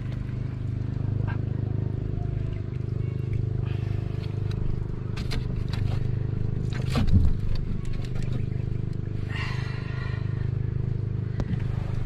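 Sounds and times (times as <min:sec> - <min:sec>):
clicks and rattles on boat: 0:00.0 - 0:09.2, 0:11.1 - 0:12.0
boat engine running steadily: 0:00.0 - 0:12.0.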